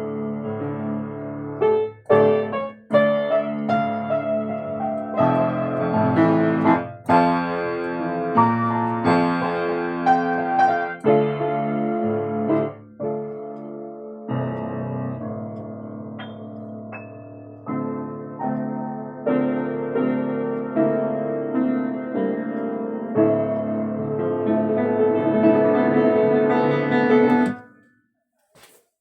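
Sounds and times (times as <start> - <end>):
solo piano: 0.0 - 27.8.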